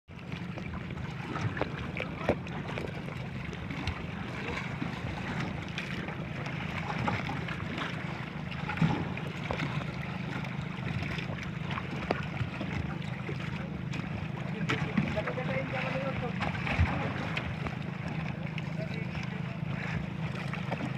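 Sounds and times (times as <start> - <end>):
boat engine running: 0.1 - 20.9.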